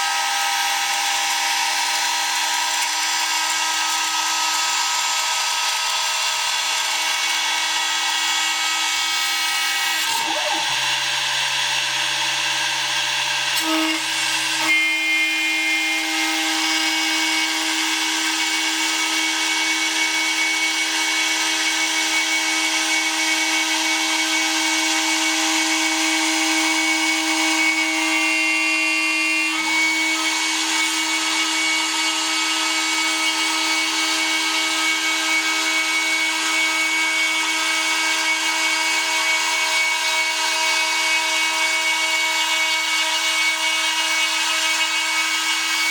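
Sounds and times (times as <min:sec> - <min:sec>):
router spindle milling metal: 0:00.0 - 0:45.9.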